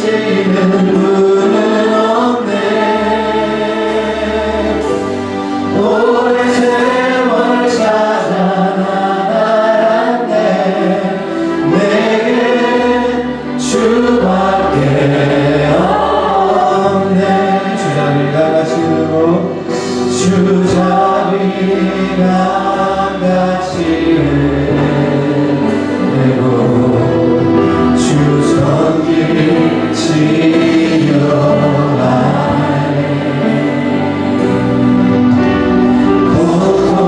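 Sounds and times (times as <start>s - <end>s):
congregation singing a worship song: 0.0s - 37.0s.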